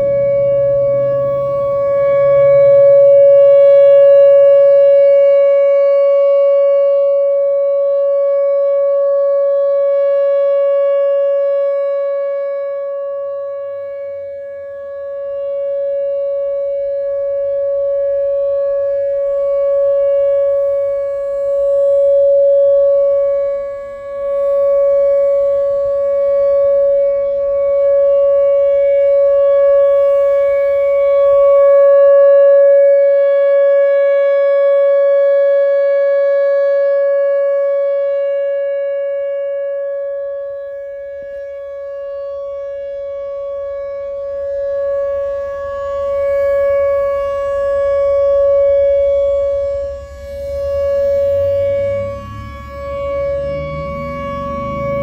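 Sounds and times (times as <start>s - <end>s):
steady tone warning siren: 0.0s - 55.0s.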